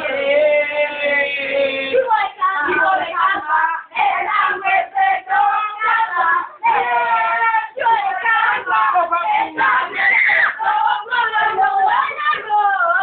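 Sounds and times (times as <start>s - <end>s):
loud sing-song voices: 0.0s - 13.0s.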